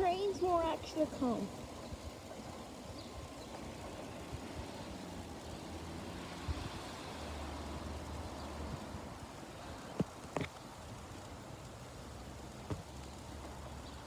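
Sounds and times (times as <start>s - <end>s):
distant vehicle rumble: 0.0s - 14.0s.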